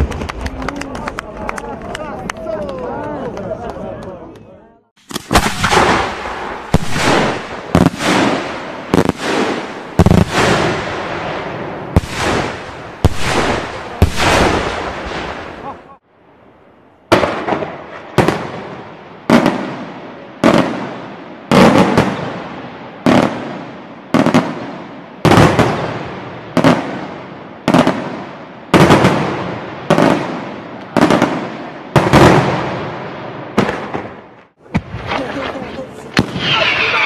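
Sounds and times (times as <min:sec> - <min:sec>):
firework bangs with echoing rumble: 0:00.0 - 0:00.7, 0:05.0 - 0:15.7, 0:17.1 - 0:37.0.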